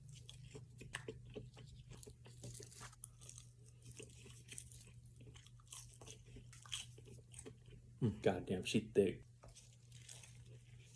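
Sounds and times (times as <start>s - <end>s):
chewing crunchy food: 0.0s - 8.0s, 9.4s - 10.9s.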